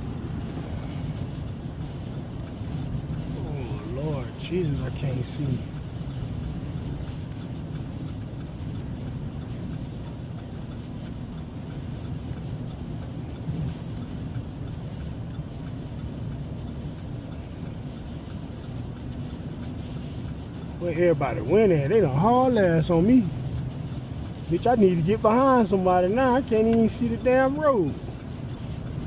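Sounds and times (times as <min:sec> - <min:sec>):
truck engine and road noise: 0:00.0 - 0:29.0.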